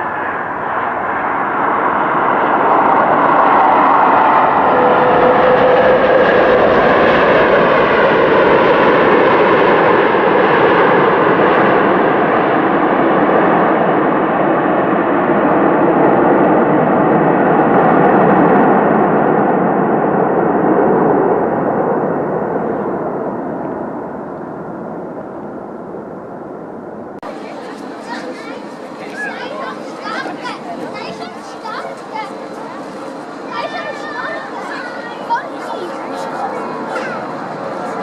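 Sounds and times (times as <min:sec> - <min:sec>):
engine whine: 0:00.0 - 0:38.0
jet engine roar: 0:00.0 - 0:38.0.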